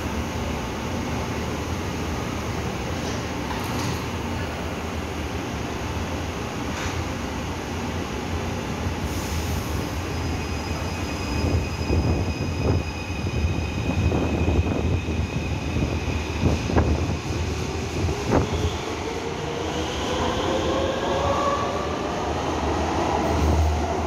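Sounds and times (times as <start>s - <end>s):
electric train rumble and whine: 0.0s - 24.0s.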